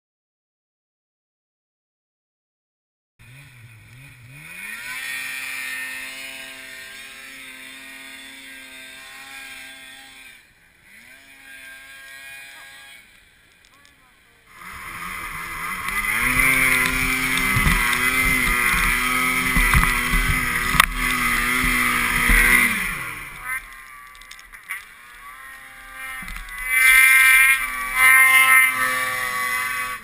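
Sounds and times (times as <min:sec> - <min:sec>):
snowmobile engine running: 0:03.2 - 0:13.1, 0:13.7 - 0:30.0.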